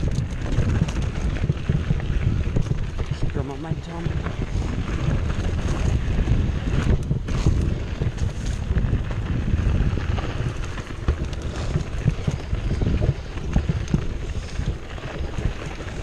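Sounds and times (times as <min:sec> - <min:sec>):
bike knocking and rattling: 0:00.0 - 0:16.0
bike tyres rumbling over ground: 0:00.0 - 0:16.0
wind on microphone: 0:00.0 - 0:16.0.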